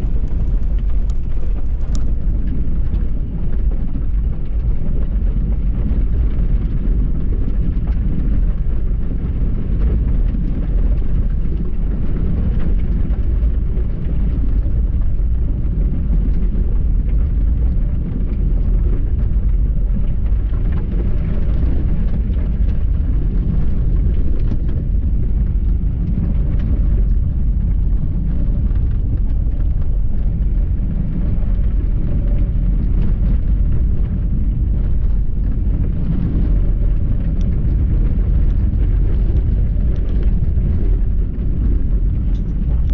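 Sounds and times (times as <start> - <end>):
engine and tyres rumbling: 0.0 - 42.9.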